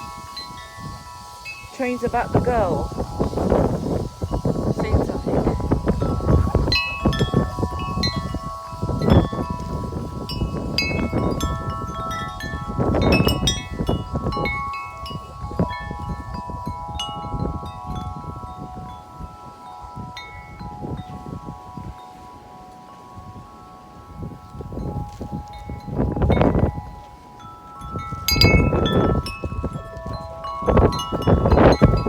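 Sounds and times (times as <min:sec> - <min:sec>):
wind buffeting microphone: 0:00.0 - 0:32.0
wind chime ringing: 0:00.0 - 0:32.0.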